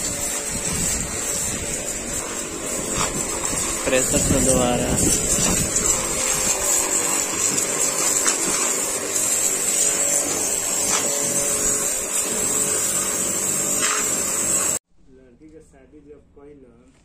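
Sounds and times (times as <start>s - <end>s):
pressure washer motor hum: 0.0s - 14.8s
water jet hissing: 0.0s - 14.8s.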